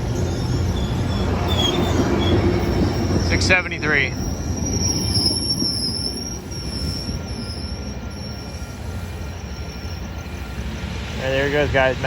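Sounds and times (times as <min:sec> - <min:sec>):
high wheel squeal: 0:00.0 - 0:12.0
train rumble: 0:00.0 - 0:12.0.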